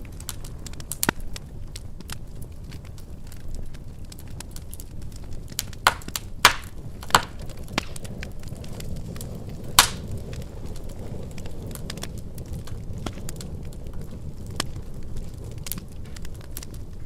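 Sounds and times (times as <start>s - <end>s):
fire rumbling and crackling: 0.0s - 17.0s
loud sharp fire pops: 0.0s - 17.0s.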